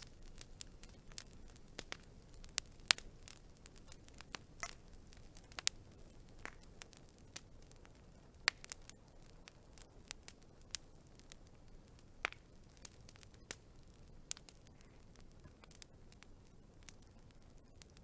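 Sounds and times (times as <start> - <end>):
soft fire hiss: 0.0 - 18.0
wood fire crackling and popping: 0.0 - 18.0.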